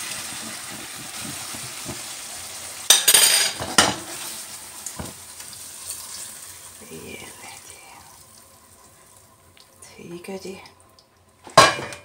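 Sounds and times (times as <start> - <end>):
food sizzling in frying pan: 0.0 - 9.8.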